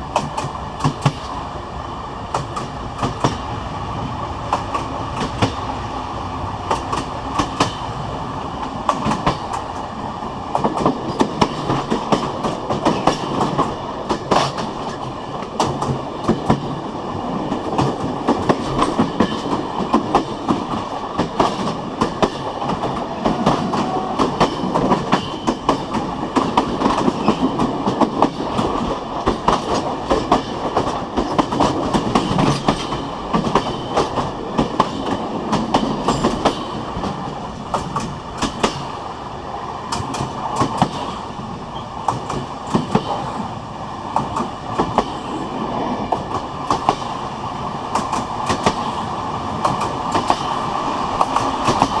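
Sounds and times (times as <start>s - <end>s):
train wheels rumbling on rails: 0.0s - 52.0s
wheels clicking over rail joints: 2.3s - 3.6s, 4.4s - 5.7s, 6.6s - 39.2s, 39.8s - 52.0s.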